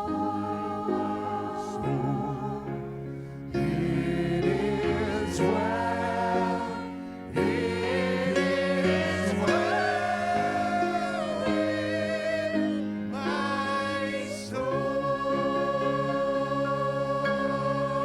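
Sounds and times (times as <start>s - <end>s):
voices singing worship song: 0.0s - 18.0s.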